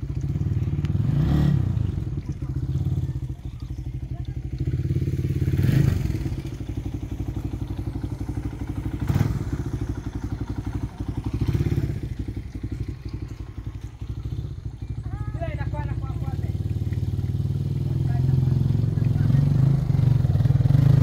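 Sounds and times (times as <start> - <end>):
small motorcycle engine running: 0.0 - 21.0.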